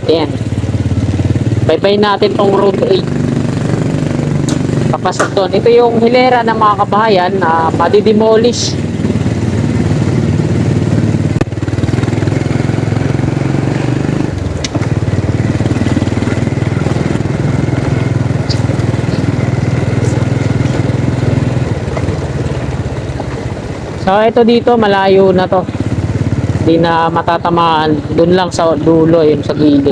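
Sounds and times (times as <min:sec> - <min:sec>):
small motorcycle engine running: 0:00.0 - 0:29.9.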